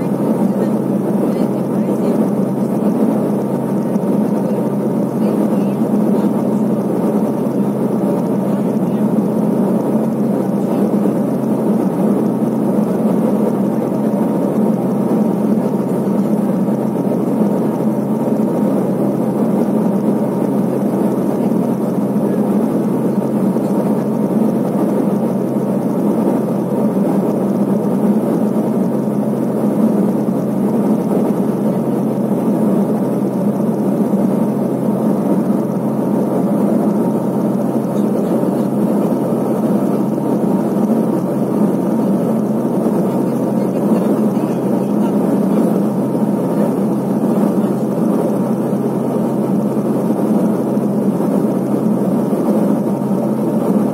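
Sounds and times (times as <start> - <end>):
turboprop engine drone in cabin: 0.0 - 53.9.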